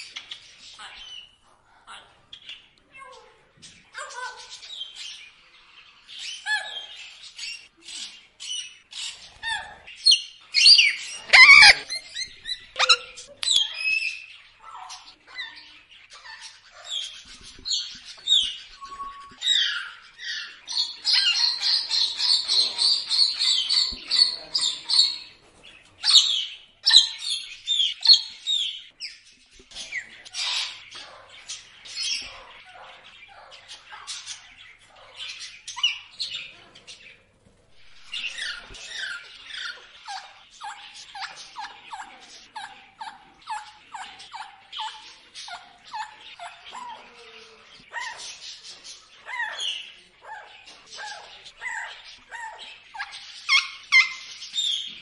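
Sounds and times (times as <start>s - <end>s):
birds chirping and whistling: 3.6s - 55.0s.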